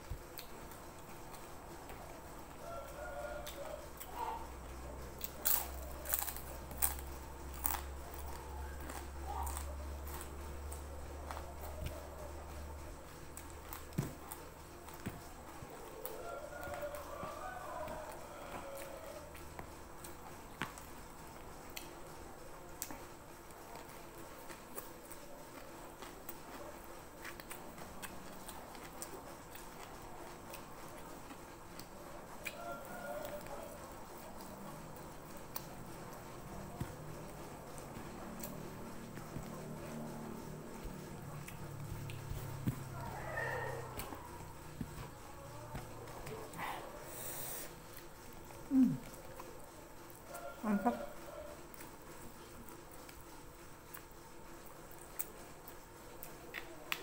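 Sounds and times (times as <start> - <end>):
steady low hum: 0.0 - 57.0
person chewing crunchy food: 0.1 - 22.2, 22.8 - 57.0.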